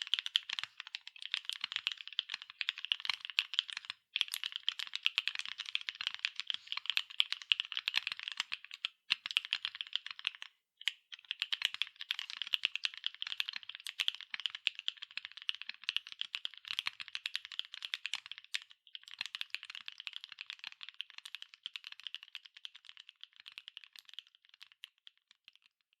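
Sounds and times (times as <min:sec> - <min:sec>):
fast typing on mechanical keyboard: 0:00.0 - 0:10.5, 0:11.2 - 0:24.7.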